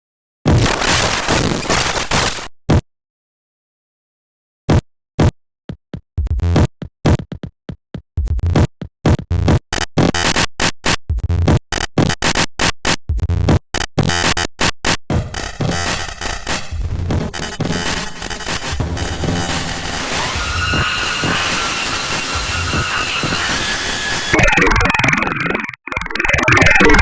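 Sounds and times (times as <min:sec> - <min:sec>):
chopped stuttering drum-machine beat: 0:05.2 - 0:27.0.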